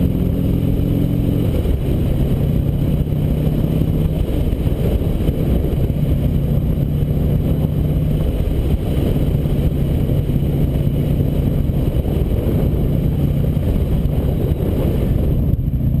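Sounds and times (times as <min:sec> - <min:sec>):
low hum: 0:00.0 - 0:16.0
motorcycle engine running: 0:00.0 - 0:16.0
wind on microphone: 0:00.0 - 0:16.0.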